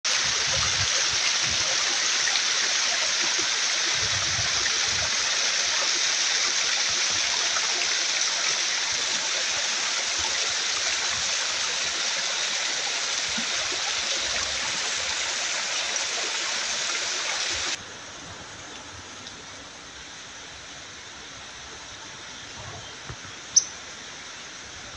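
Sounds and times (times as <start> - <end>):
rushing water: 0.0 - 24.9.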